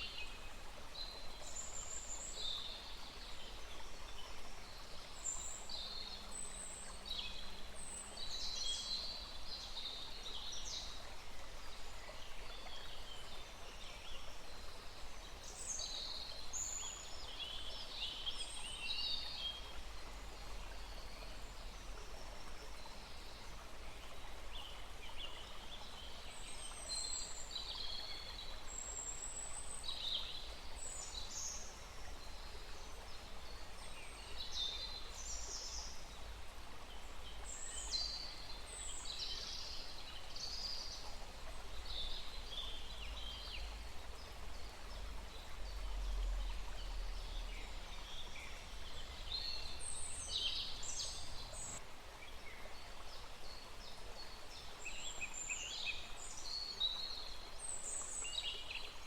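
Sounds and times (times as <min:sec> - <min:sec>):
small stream rushing: 0:00.0 - 0:59.0.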